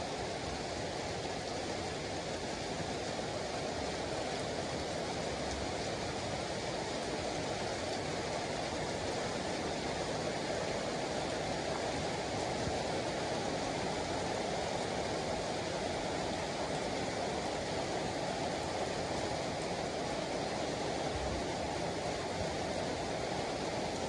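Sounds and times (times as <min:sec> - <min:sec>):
steady rain on pavement: 0:00.0 - 0:24.0.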